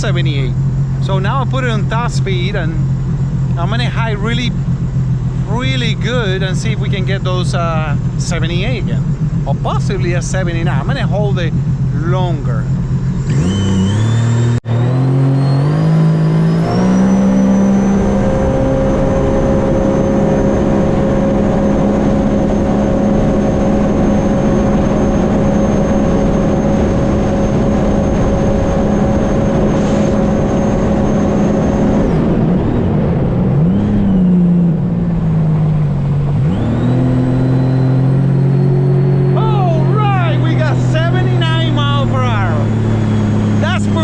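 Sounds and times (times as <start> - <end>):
high whine: 0.0 - 44.0
jet ski engine revving: 0.0 - 44.0.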